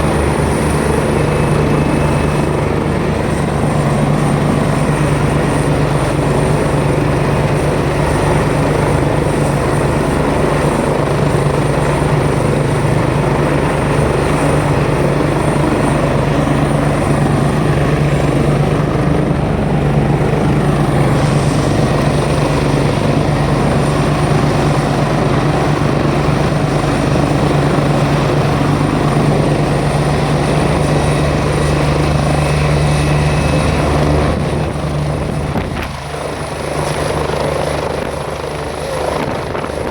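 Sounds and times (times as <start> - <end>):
helicopter engine hum: 0.0 - 39.9
helicopter rotor beating: 0.0 - 39.9.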